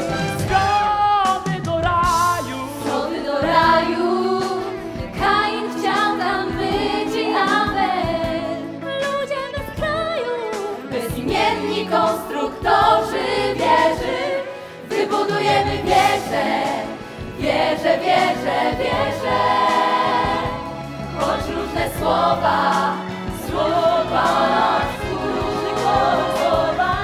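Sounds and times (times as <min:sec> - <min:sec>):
instrumental accompaniment: 0:00.0 - 0:27.0
several voices singing together: 0:02.4 - 0:08.9, 0:10.8 - 0:27.0.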